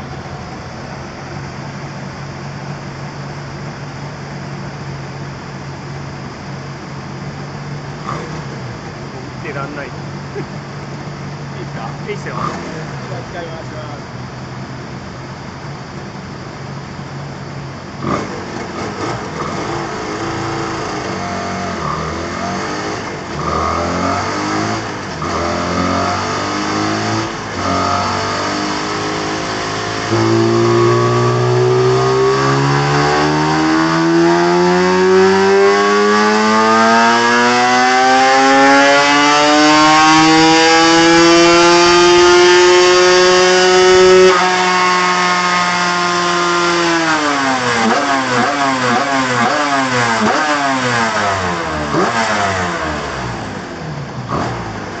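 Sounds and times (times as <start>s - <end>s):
vehicle engine exhaust revving: 0.0s - 55.0s.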